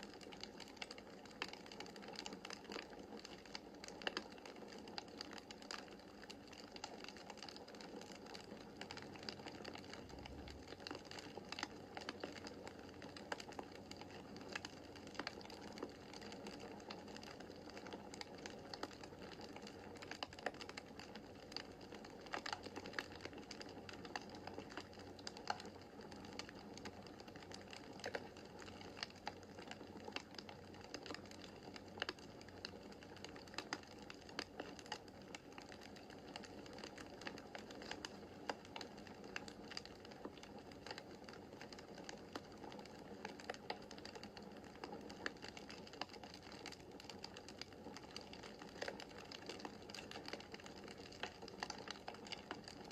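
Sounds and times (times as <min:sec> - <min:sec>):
burning logs crackling: 0:00.0 - 0:52.9.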